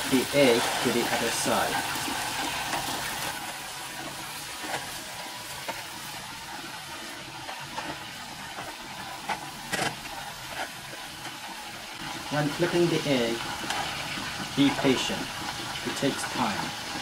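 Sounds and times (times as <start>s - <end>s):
omelette sizzling in oil: 0.0s - 17.0s
wooden spatula scraping a pan: 0.0s - 17.0s.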